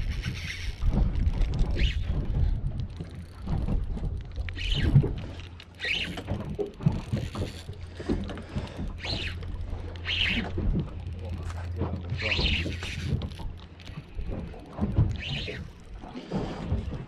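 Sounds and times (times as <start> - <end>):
water moving around boat: 0.0 - 17.0
wind buffeting microphone: 0.0 - 17.0.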